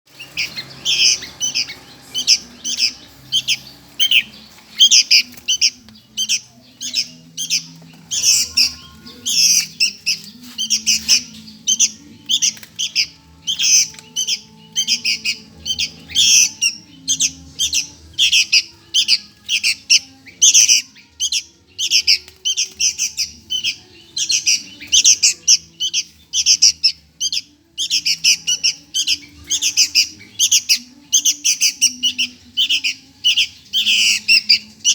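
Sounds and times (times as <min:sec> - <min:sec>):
bird chick begging calls: 0:00.2 - 0:34.9.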